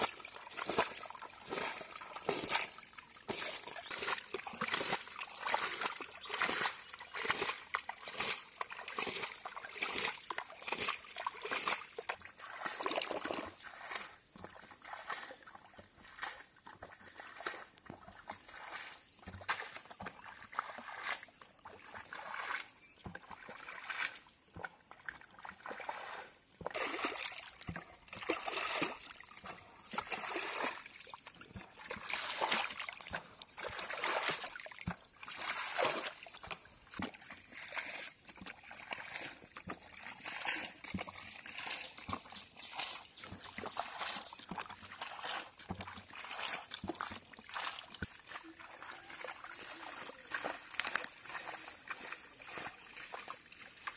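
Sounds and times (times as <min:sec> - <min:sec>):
pond water splashing and trickling: 0:00.0 - 0:53.9.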